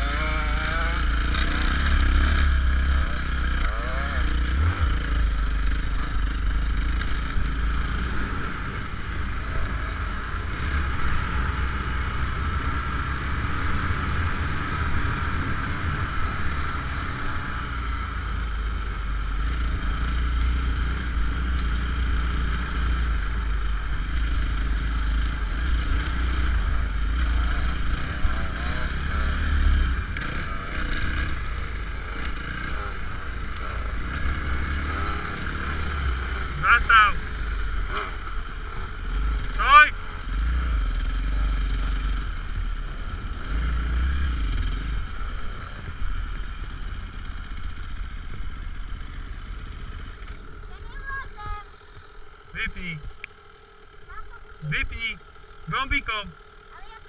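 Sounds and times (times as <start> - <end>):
motocross bike engine: 0.0 - 57.0.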